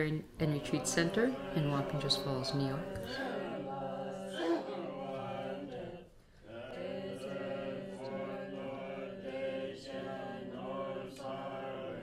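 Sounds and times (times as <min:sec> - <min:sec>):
group chanting in unison: 0:00.0 - 0:12.0.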